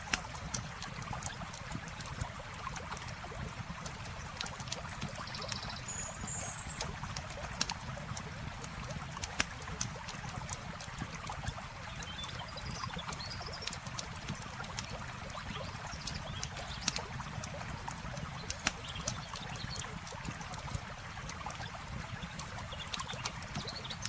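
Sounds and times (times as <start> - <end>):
campfire crackling and popping: 0.0 - 5.8, 6.7 - 24.0
river flowing: 0.0 - 24.0.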